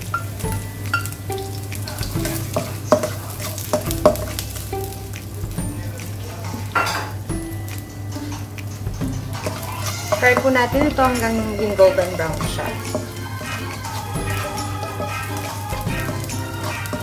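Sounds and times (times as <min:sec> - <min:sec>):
garlic sizzling in oil: 0:00.0 - 0:17.0
spatula scraping and tapping pan: 0:00.0 - 0:17.0.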